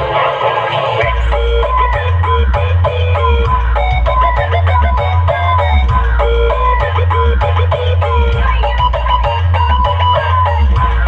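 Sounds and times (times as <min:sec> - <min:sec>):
loud music with heavy bass: 0:00.0 - 0:11.0.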